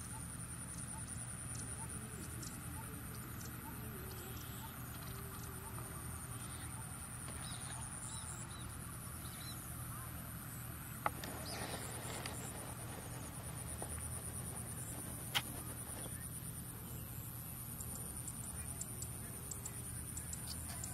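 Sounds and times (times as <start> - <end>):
bird calls: 0.0 - 20.9.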